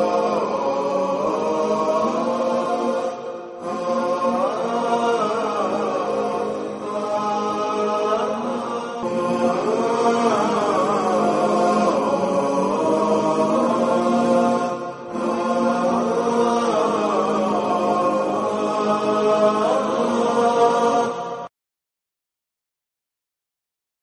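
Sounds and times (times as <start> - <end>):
chanted vocals in held notes: 0.0 - 21.5.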